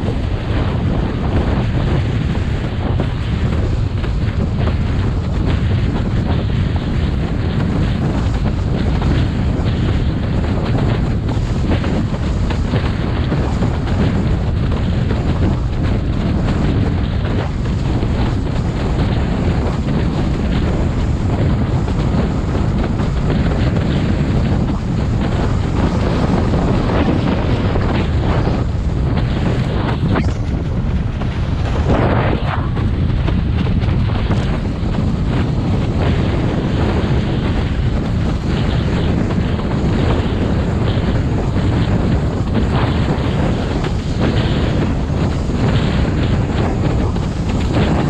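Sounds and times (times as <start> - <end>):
water rushing and slapping: 0.0 - 48.0
wind buffeting microphone: 0.0 - 48.0.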